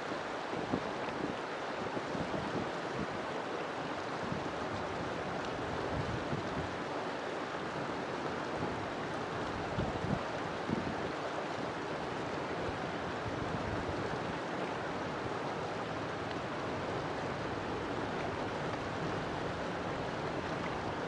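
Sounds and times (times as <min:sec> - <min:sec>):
river water flowing over stones: 0:00.0 - 0:21.0.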